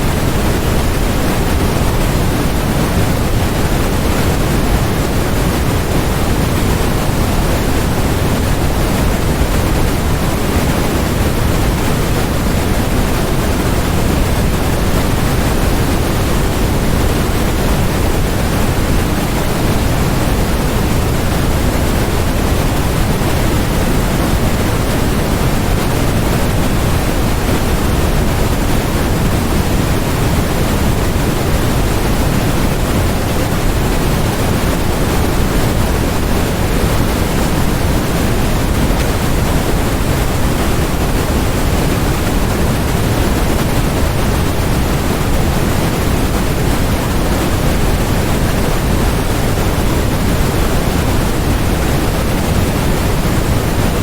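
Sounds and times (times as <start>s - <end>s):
deep white noise hiss: 0.0s - 54.0s.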